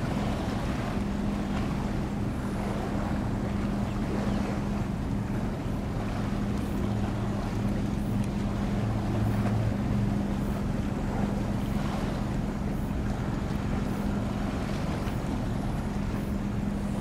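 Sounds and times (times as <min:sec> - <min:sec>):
ship engine droning: 0:00.0 - 0:17.0.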